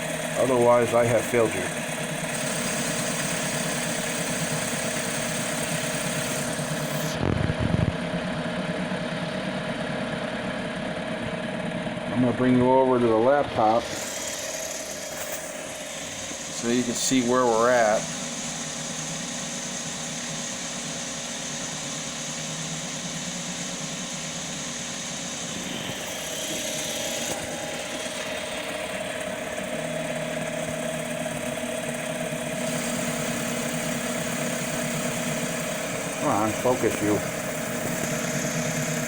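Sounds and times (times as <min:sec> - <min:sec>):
lathe motors humming: 0:00.0 - 0:39.0.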